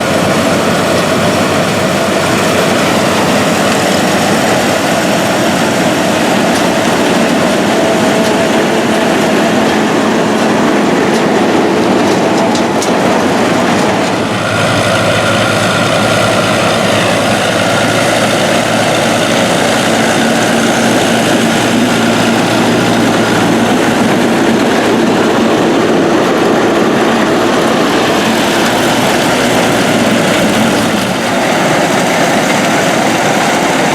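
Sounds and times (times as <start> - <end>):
farm machinery engines: 0.0 - 33.9.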